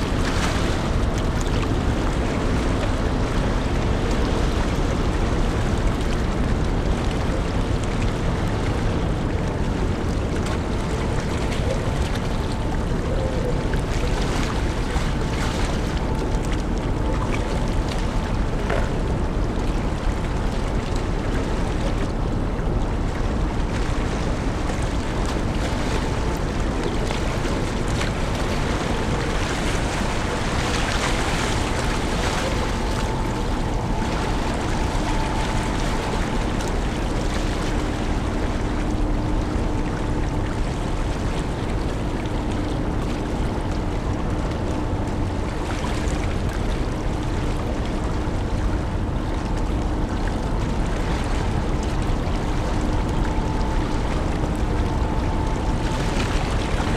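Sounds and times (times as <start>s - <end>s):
faint machinery hum: 0.0s - 56.9s
wind and sea water rushing: 0.0s - 56.9s.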